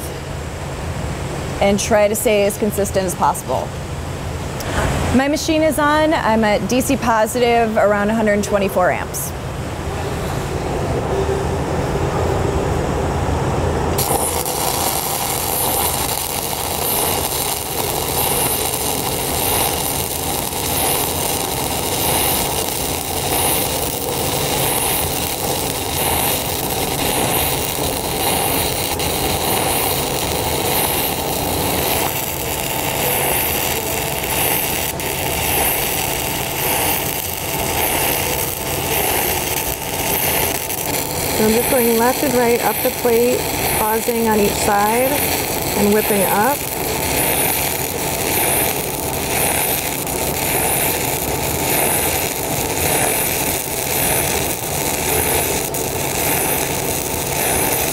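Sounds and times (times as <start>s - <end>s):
welding arc crackling and sizzling: 4.5s - 9.3s, 13.9s - 57.9s.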